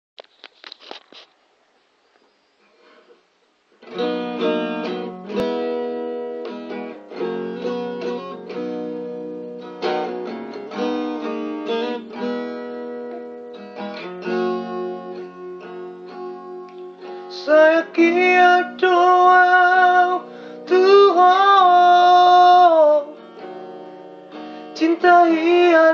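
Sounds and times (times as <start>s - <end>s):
acoustic guitar: 2.2s - 25.9s.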